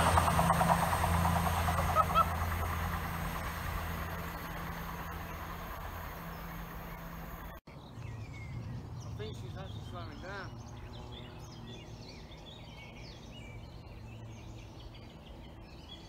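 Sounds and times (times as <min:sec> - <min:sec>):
diesel train engine and wheels: 0:00.0 - 0:16.0.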